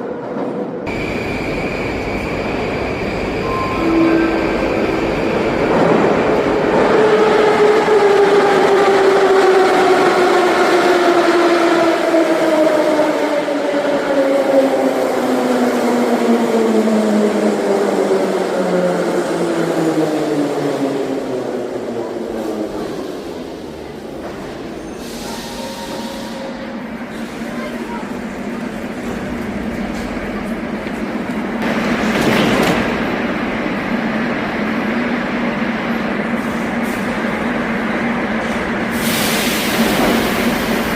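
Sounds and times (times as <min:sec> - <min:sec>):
metro train rumbling: 0:00.0 - 0:40.9.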